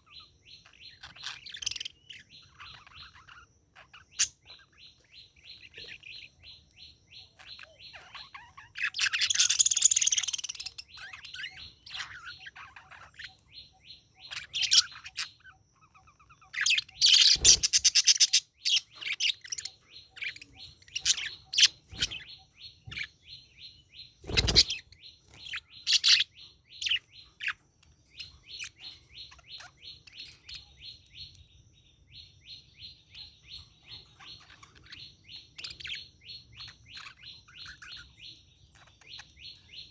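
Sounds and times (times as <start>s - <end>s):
budgerigar chirping: 0.0s - 31.4s, 32.1s - 39.9s
harsh bird calls: 0.0s - 39.9s.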